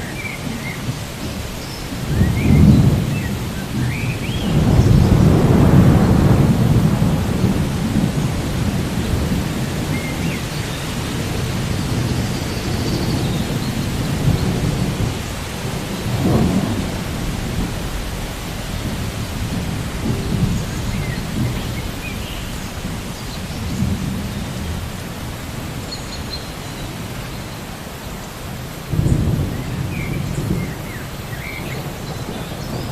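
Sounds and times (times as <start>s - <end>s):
rolling thunder: 0.0s - 27.8s, 28.5s - 32.9s
steady rain: 0.0s - 32.9s.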